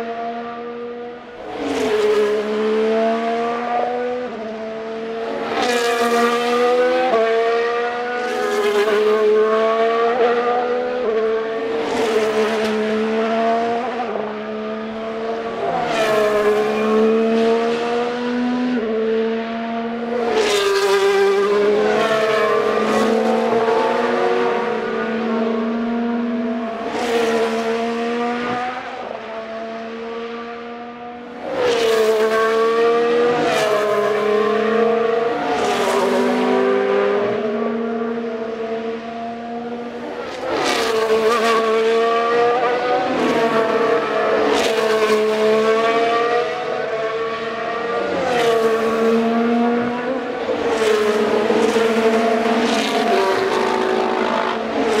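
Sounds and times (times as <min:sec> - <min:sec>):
racing cars passing through corner: 0:00.1 - 0:55.0.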